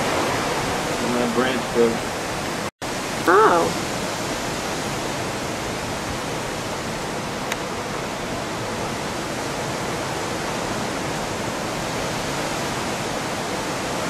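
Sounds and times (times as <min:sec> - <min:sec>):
wind and rain through trees: 0:00.0 - 0:14.0.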